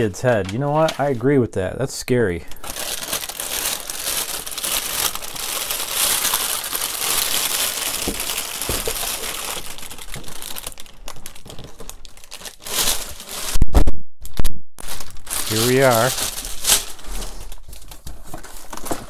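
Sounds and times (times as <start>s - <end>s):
plastic bag crinkling and rustling: 2.5s - 19.0s.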